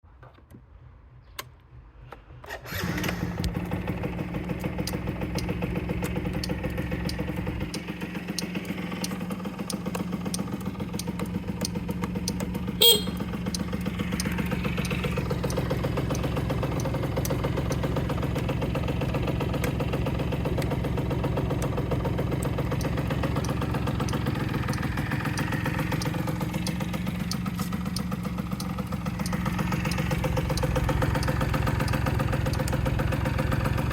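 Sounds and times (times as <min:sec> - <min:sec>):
scooter engine idling: 0:02.5 - 0:33.9.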